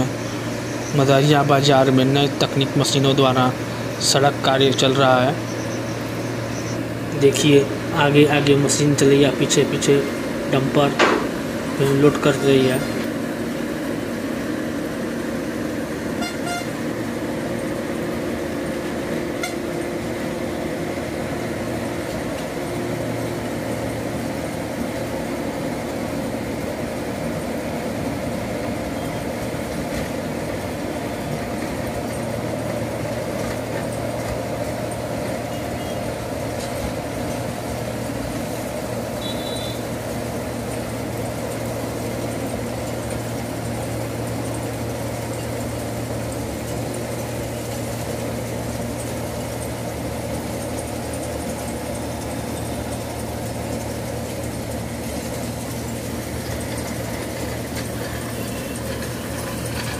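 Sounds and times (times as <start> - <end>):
heavy machinery engines droning: 0.0 - 59.9.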